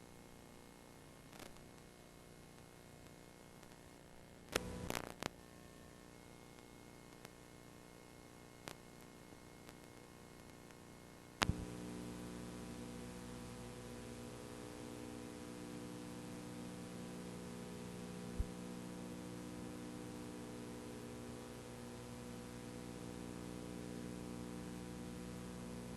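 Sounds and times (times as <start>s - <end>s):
electrical mains hum: 0.0s - 25.9s.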